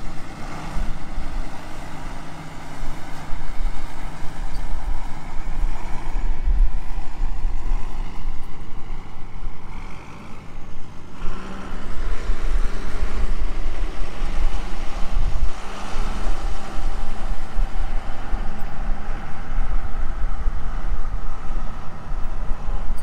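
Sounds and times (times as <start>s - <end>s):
large engine running: 0.0s - 23.0s.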